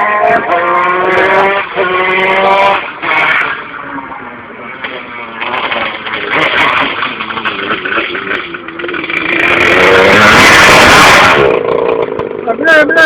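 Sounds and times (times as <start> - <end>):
kart engine revving: 0.0 - 13.0.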